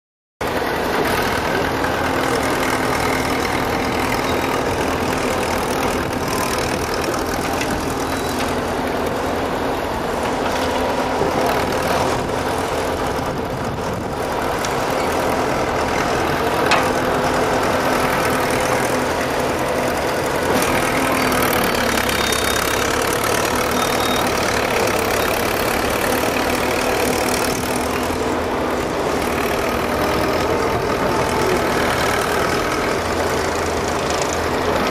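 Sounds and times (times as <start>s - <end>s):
excavator engine running: 0.4s - 34.9s.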